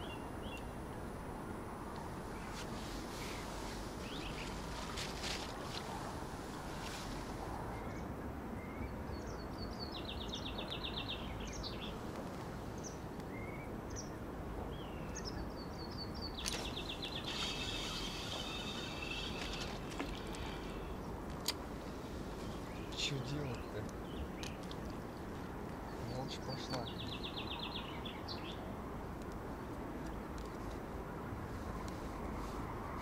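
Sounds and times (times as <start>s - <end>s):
small birds singing: 0.0s - 0.8s, 2.0s - 28.8s
wind and river hiss: 0.0s - 33.0s.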